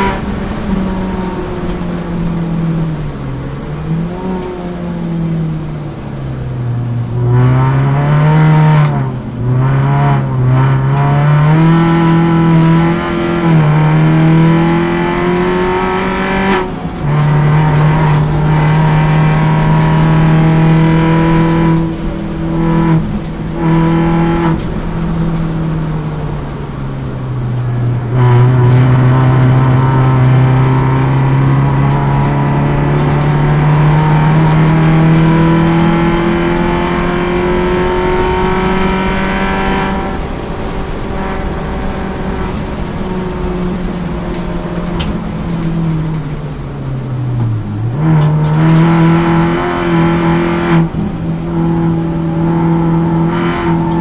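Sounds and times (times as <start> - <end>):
race car engine under load: 0.0 - 54.0.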